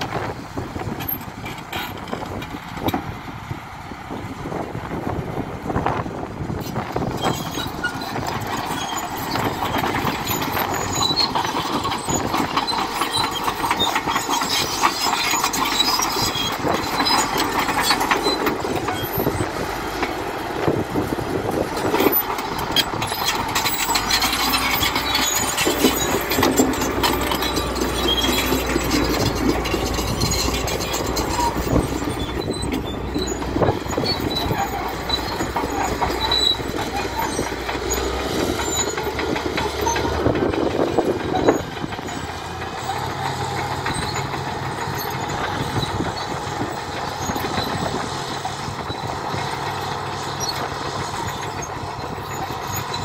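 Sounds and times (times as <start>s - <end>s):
diesel engine running under load: 0.0s - 53.0s
steel tracks clattering: 6.7s - 53.0s.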